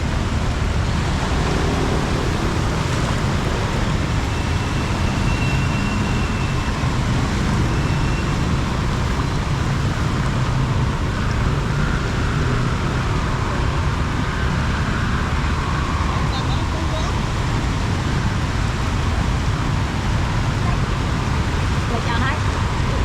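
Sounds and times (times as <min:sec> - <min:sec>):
rumble of passing vehicles: 0:00.0 - 0:23.0.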